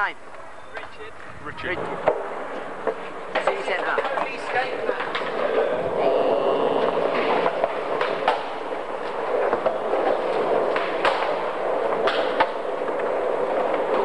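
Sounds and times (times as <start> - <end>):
skateboard wheels rolling: 0.0 - 14.0
skateboards clacking: 0.0 - 14.0.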